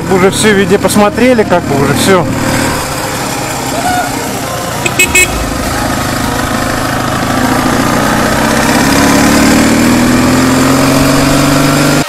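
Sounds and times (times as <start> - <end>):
steady rush of noise: 0.0 - 10.3
motorcycle engine running: 0.0 - 12.0.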